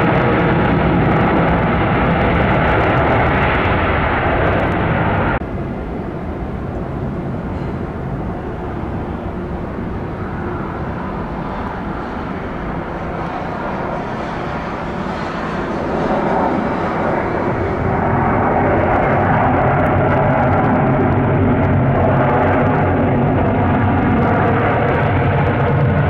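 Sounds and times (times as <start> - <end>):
dull steady jet noise: 0.0 - 26.0
loud jet engines: 0.0 - 26.0.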